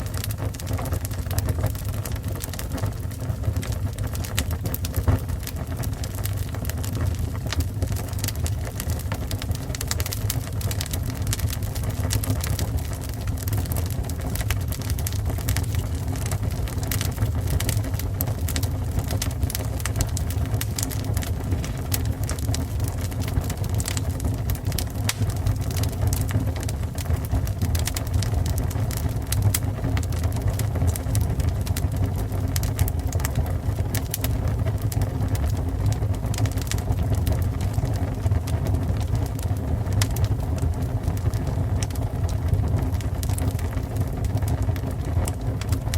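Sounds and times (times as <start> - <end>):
fire crackling and popping: 0.0 - 45.9
fire roaring: 0.0 - 45.9.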